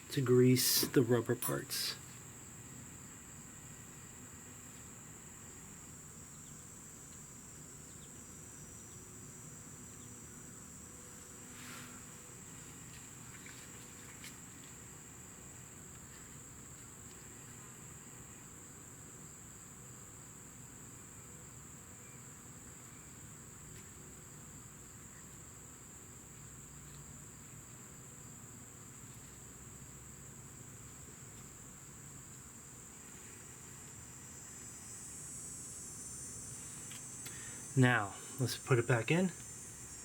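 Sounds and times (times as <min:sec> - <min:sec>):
crickets chirring: 0:00.0 - 0:40.0
low background hum: 0:00.0 - 0:40.0.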